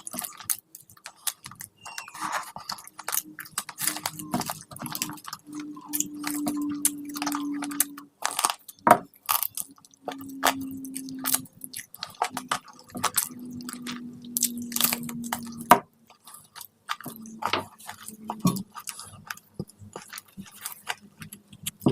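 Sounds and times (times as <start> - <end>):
chewing and biting food: 0.0 - 21.9
low steady hum: 0.0 - 21.9.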